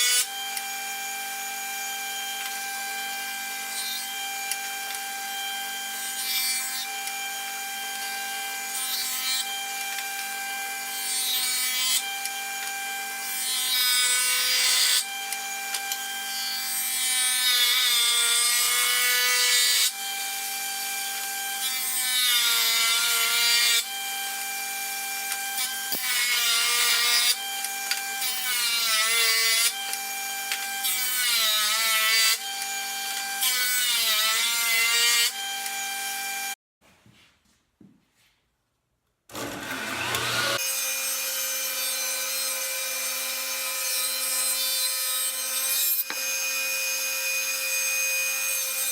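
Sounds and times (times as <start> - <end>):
power tool cutting wood: 0.0 - 36.6, 39.3 - 48.9.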